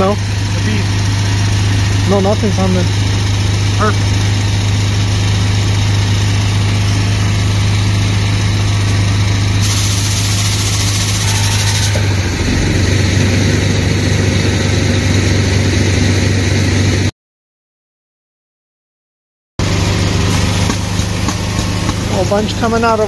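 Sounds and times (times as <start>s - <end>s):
pump engine running: 0.0s - 17.1s, 19.6s - 23.0s.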